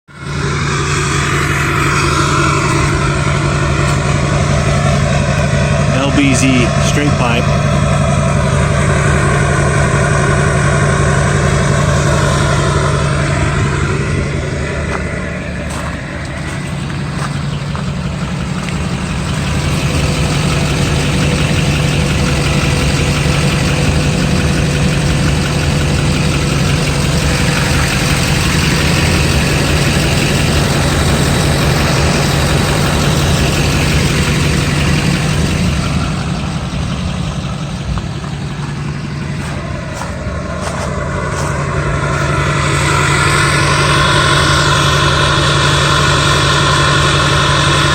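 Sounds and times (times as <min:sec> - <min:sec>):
diesel engine with open exhaust: 0:00.0 - 0:47.9.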